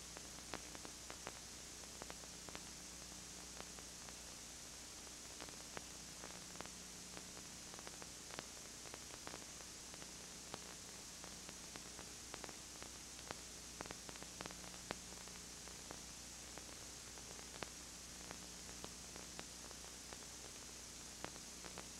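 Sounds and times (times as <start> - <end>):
low electrical hum: 0.0 - 21.9
tape hiss: 0.0 - 21.9
faint clicks and crackles: 0.1 - 21.9.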